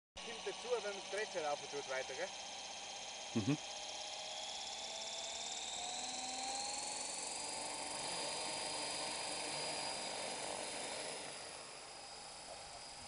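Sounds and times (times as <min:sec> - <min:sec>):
model helicopter motor and rotor whine: 0:00.2 - 0:13.0.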